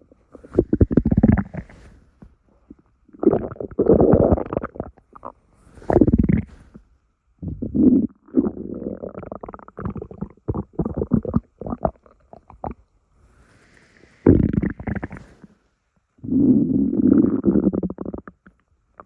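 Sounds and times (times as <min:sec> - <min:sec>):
stomach rumbling and gurgling: 0:00.0 - 0:19.0.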